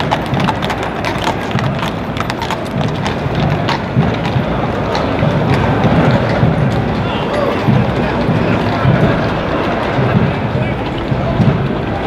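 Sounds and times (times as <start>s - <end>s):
horse hooves clopping on pavement: 0.0s - 12.0s
street noise: 0.0s - 12.0s.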